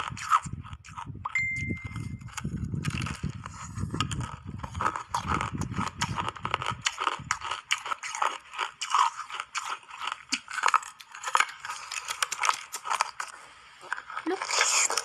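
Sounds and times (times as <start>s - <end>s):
teeth crunching ice: 0.0s - 15.0s.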